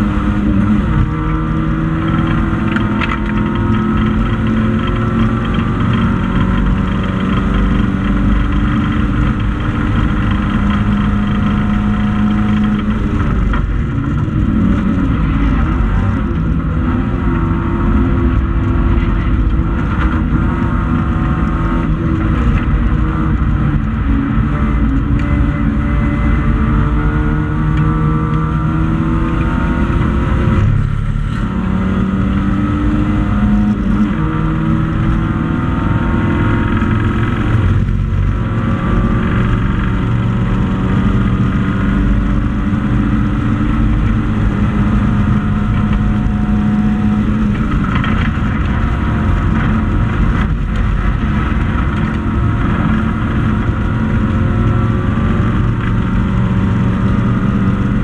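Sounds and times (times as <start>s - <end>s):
race car engine at high revs: 0.0s - 58.0s
road and wind noise: 0.0s - 58.0s.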